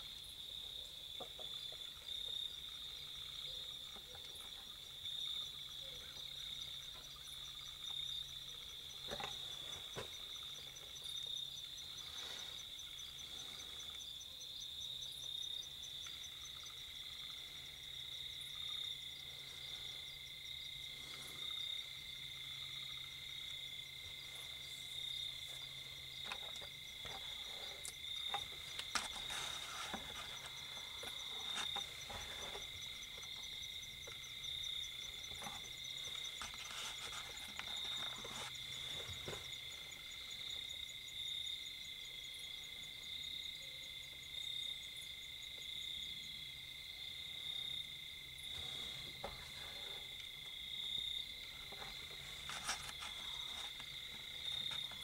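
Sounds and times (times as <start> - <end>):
lower insect trill: 0.0 - 55.0.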